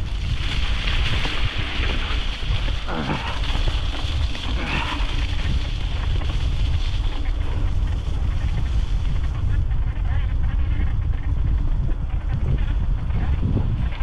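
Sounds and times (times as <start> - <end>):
bike rolling over dirt trail: 0.0 - 14.0
wind buffeting microphone: 0.0 - 14.0.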